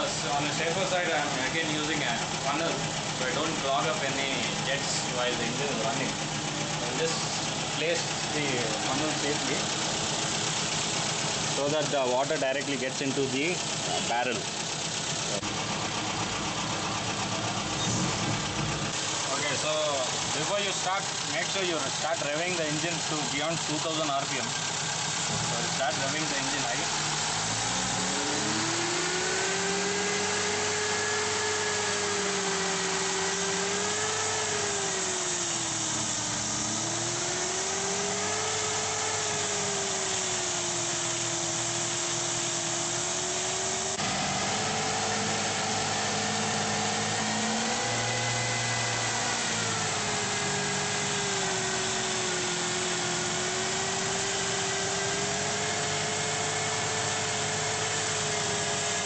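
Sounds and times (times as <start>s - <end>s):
car engine at raised revs: 0.0s - 59.0s.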